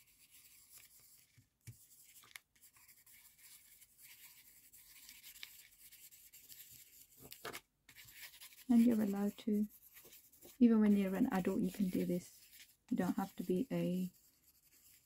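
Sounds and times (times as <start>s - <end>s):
pencil scribbling on paper: 0.0s - 15.0s.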